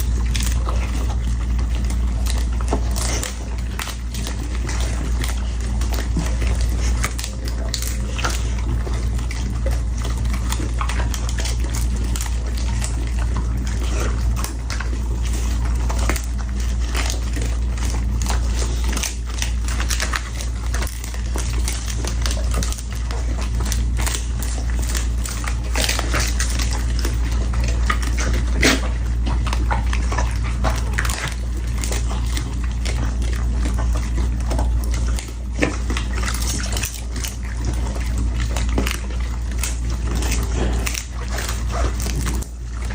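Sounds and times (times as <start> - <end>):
dog chewing and lapping: 0.0 - 42.9.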